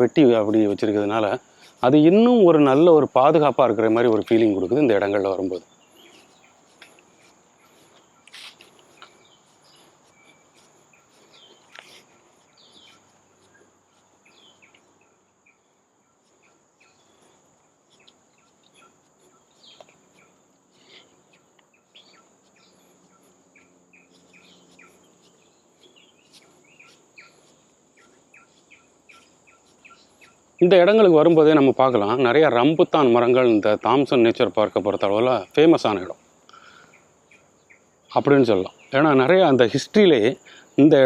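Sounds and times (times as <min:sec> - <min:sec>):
bird chirps: 0:00.0 - 0:39.6.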